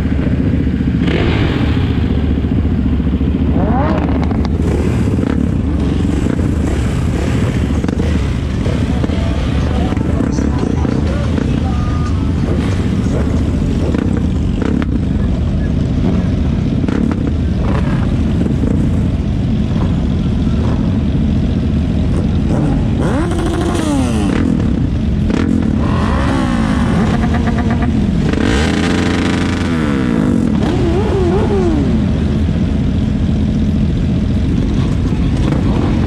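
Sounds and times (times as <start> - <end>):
engines revving: 0.0 - 36.0
motorcycles idling: 0.0 - 36.0.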